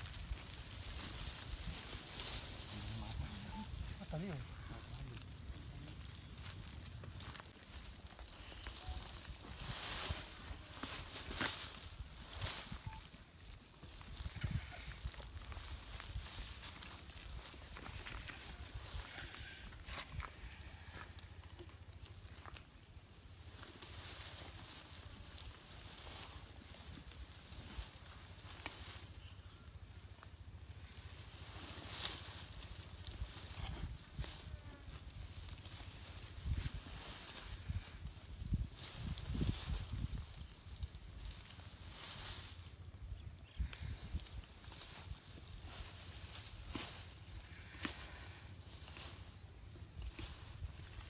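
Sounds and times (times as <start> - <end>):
high-pitched insect chorus: 0.0 - 51.0
rustles: 0.0 - 51.0.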